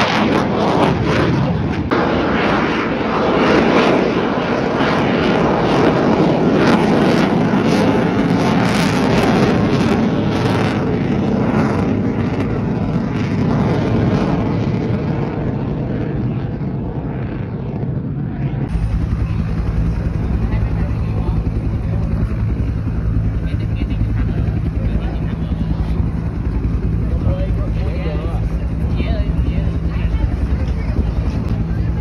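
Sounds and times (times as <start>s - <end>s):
aircraft engine crackling: 0.0s - 32.0s.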